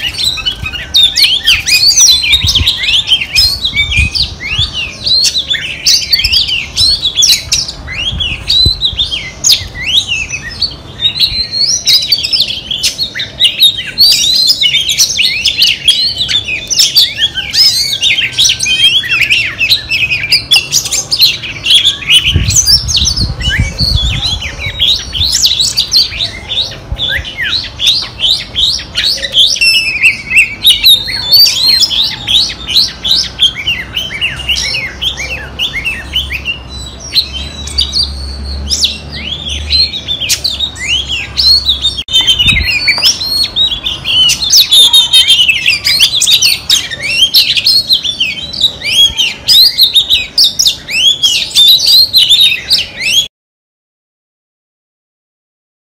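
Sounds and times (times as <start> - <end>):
bird singing whistled phrases: 0.0 - 53.3.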